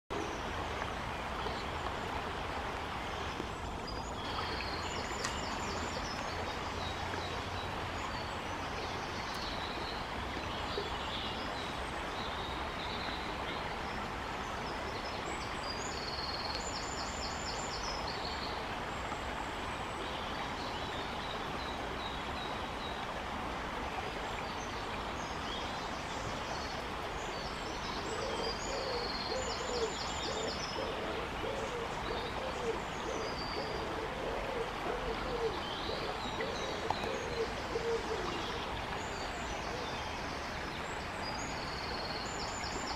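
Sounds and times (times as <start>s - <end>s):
stream flowing: 0.1s - 42.9s.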